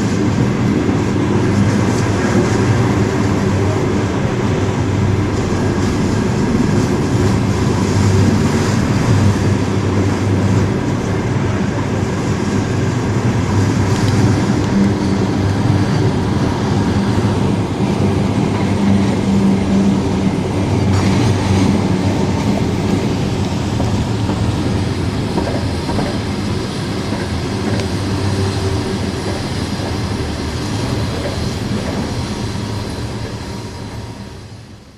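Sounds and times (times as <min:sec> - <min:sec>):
clickety-clack of rail joints: 0:00.0 - 0:34.9
train rumbling on rails: 0:00.0 - 0:34.9.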